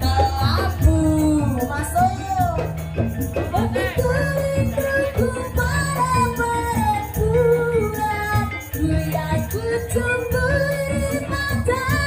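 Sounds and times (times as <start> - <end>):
woman singing: 0.0 - 2.8, 3.4 - 12.0
live band music: 0.0 - 12.0.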